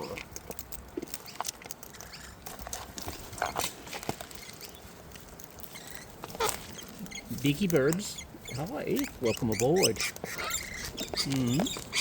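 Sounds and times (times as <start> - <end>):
cockatoo beaks cracking seed husks: 0.0 - 12.0.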